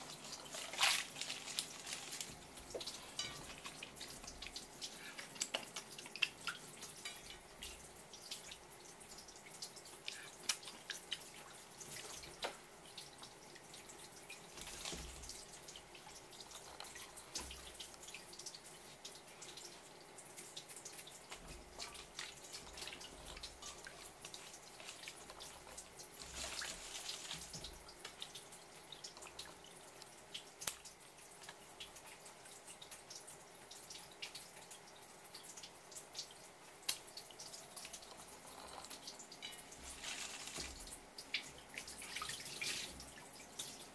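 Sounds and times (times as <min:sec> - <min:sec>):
liquid sloshing and dripping: 0:00.0 - 0:43.9.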